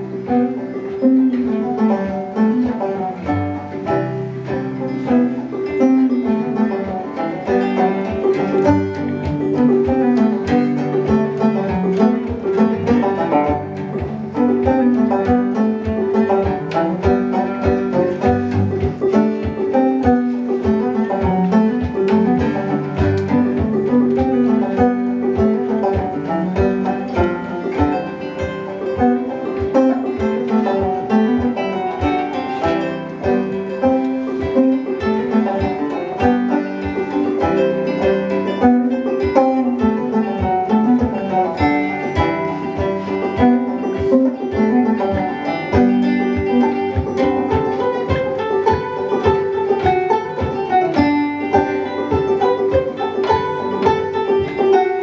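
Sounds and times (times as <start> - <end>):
acoustic guitar and banjo tune: 0.0 - 55.0.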